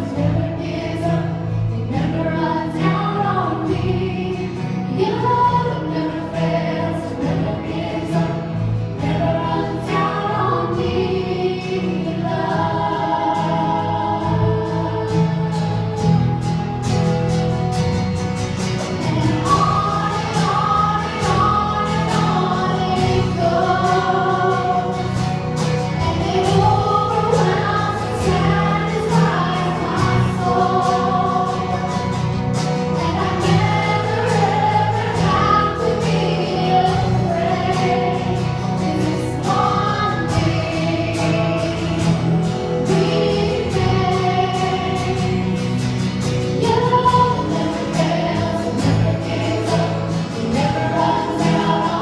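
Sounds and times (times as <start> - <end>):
choir singing gospel: 0.0 - 52.0
instrumental accompaniment: 0.0 - 52.0.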